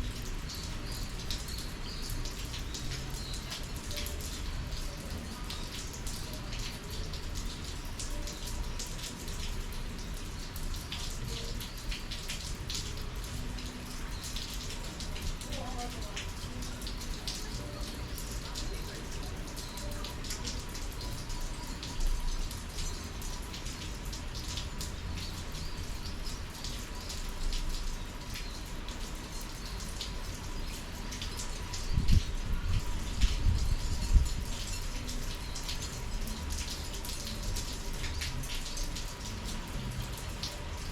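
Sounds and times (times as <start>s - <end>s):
raindrops pattering: 0.0s - 40.9s.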